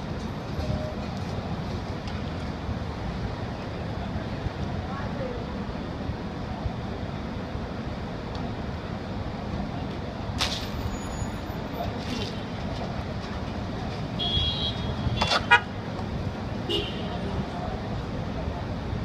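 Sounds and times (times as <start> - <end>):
city road traffic: 0.0 - 19.0.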